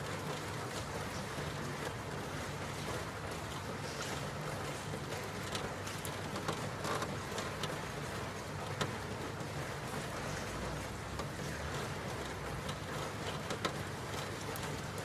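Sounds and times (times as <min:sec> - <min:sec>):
sharp drips and ticks: 0:00.0 - 0:15.0
steady rain falling: 0:00.0 - 0:15.0.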